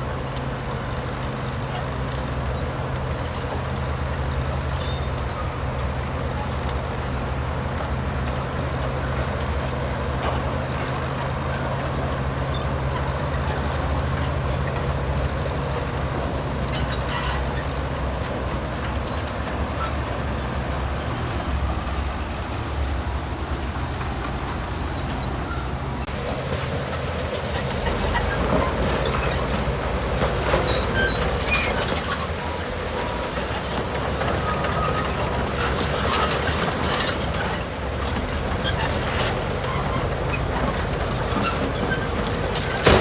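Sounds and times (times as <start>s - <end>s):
diesel machinery engine running: 0.0s - 43.0s.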